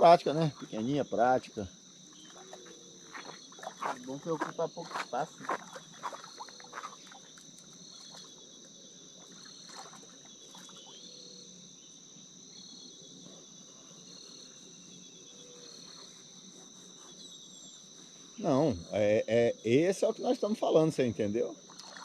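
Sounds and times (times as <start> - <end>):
high-pitched insect chirring: 0.0 - 13.2, 13.9 - 22.0.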